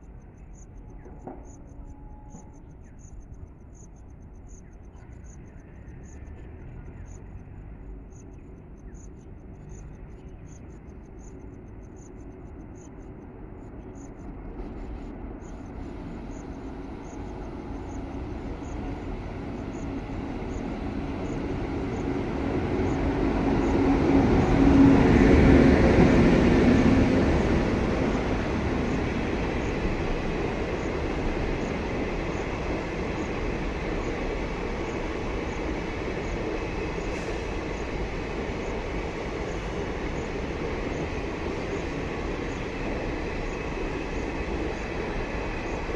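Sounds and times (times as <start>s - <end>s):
train passing: 0.0s - 45.9s
train rumble and rail noise: 0.0s - 45.9s.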